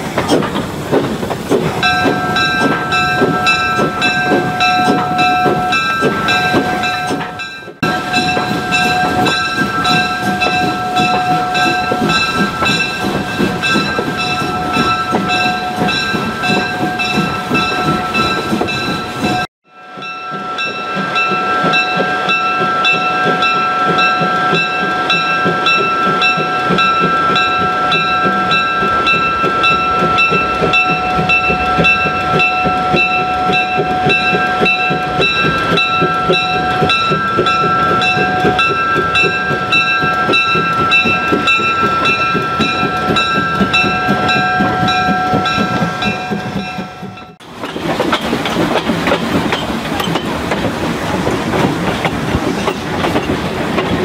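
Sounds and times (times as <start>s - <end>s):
steam train rumbling: 0.0s - 54.0s.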